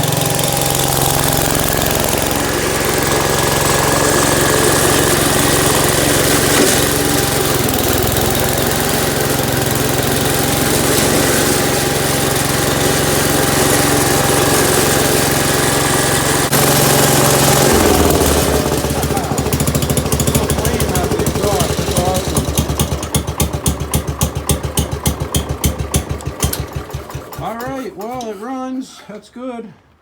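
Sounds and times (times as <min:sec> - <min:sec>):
tractor engine running: 0:00.0 - 0:28.8.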